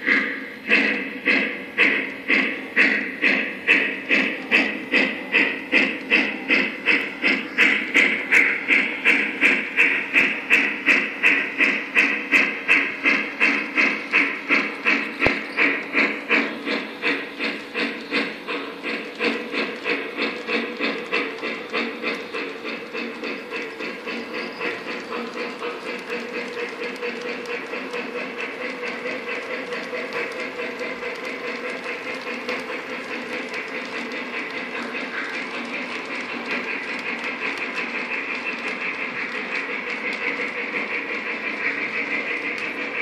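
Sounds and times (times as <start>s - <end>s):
model steam locomotive chuffing: 0.0s - 43.0s
train rolling on track: 0.0s - 43.0s.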